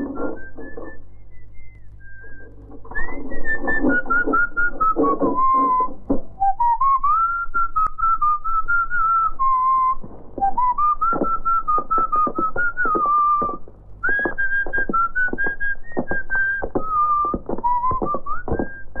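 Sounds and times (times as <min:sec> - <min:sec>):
person whistling a tune: 0:00.0 - 0:19.0.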